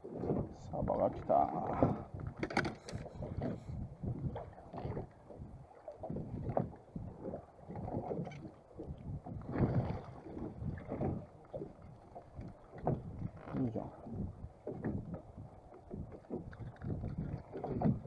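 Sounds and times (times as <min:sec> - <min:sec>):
water slapping boat hull: 0:00.0 - 0:18.0
wind rumbling on microphone: 0:00.0 - 0:18.0.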